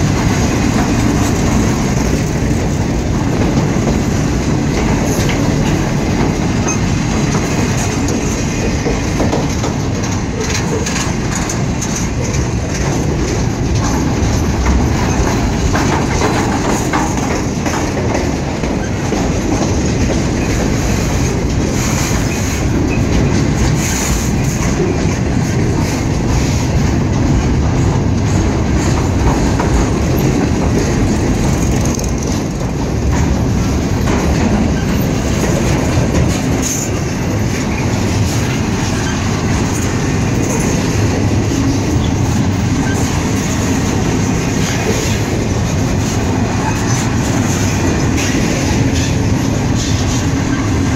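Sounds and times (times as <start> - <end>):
steel wheels rumbling on rail: 0.0 - 50.9.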